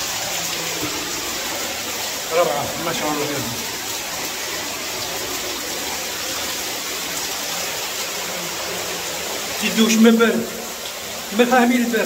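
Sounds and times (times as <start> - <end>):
shower spraying water: 0.0 - 12.0
water splashing on tiled floor: 0.0 - 12.0.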